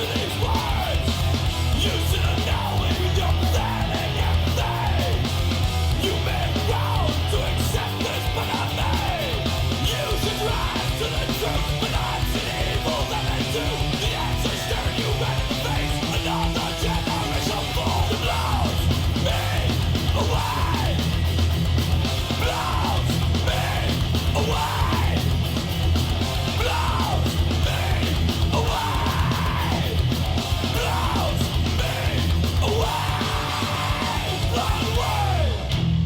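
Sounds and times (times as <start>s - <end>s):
shouted vocals: 0.0s - 21.3s, 22.1s - 25.5s, 26.2s - 35.7s
heavy metal music: 0.0s - 36.0s.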